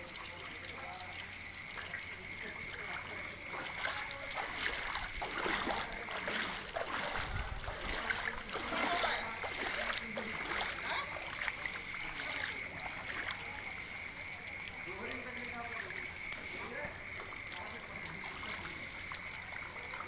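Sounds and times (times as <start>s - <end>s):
water splashing and flowing: 0.0s - 20.0s.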